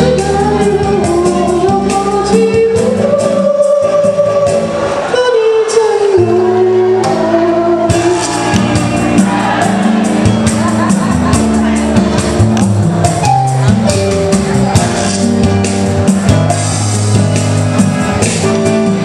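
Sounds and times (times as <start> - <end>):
backing track with steady beat: 0.0 - 19.0.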